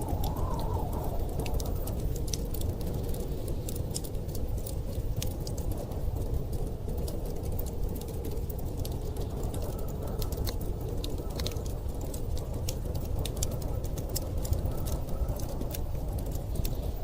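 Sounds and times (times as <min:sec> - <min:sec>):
low rumble of storm wind: 0:00.0 - 0:17.0
wood fire crackling and popping: 0:00.0 - 0:17.0.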